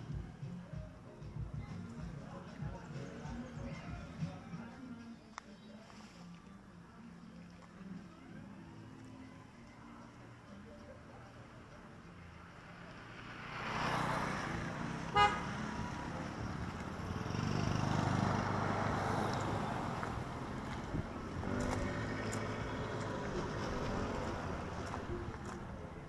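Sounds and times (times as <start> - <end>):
vehicles passing on road: 0.0 - 26.0.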